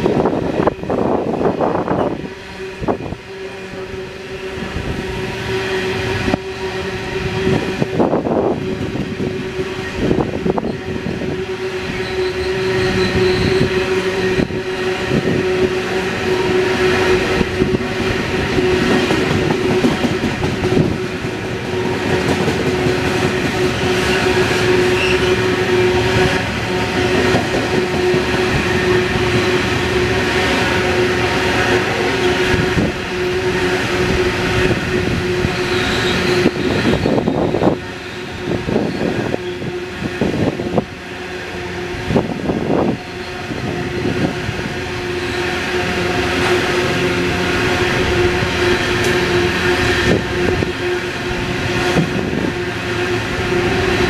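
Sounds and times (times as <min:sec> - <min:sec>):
train rumble and wheel clatter: 0:00.0 - 0:54.0.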